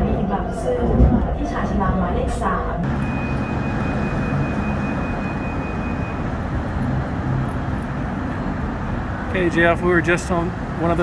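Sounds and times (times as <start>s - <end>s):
city traffic: 0.0s - 11.0s
train rumble: 0.0s - 11.0s.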